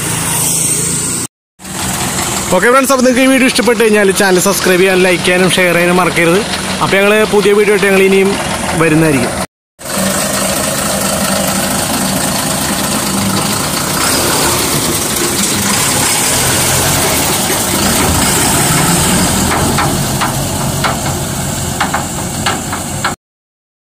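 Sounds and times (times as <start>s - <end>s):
truck engine idling: 1.6s - 23.2s.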